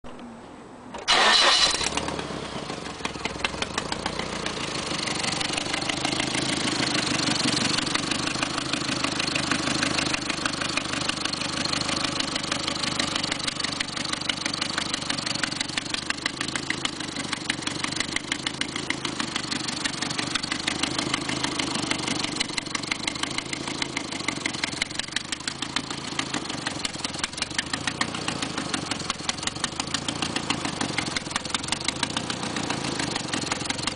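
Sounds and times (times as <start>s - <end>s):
car engine starting and idling: 0.9s - 33.9s
fast even ticking from exhaust leak: 3.1s - 33.9s.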